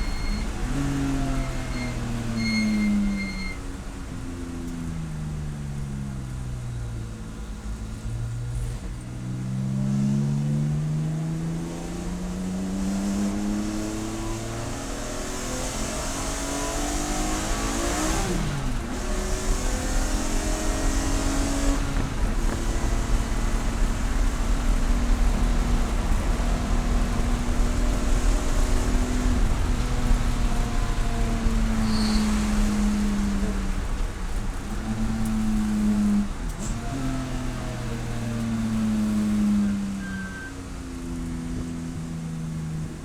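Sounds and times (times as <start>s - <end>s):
race car engine accelerating: 0.0s - 5.0s, 7.2s - 43.0s.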